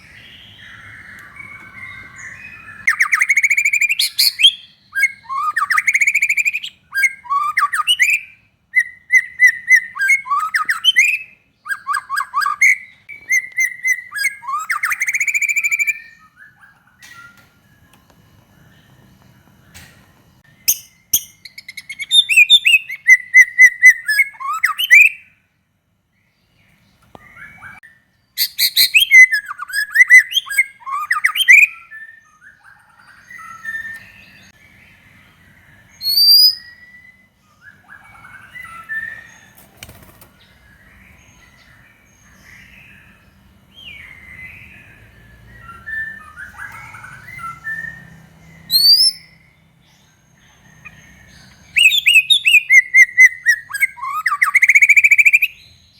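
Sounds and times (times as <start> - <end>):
bird singing whistles and trills: 0.0 - 18.0, 20.5 - 25.4, 27.1 - 39.6, 40.4 - 55.9.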